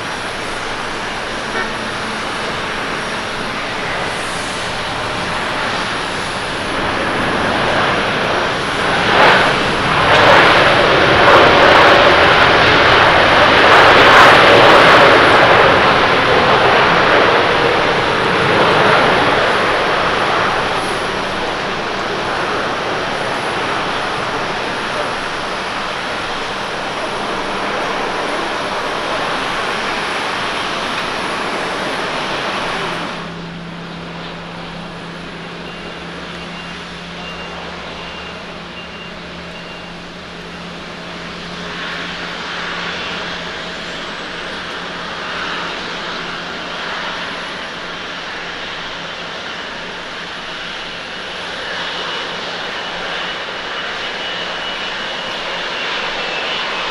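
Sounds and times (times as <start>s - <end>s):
jet engines humming with whine: 0.0s - 56.9s
jet engines running loud: 0.0s - 56.9s.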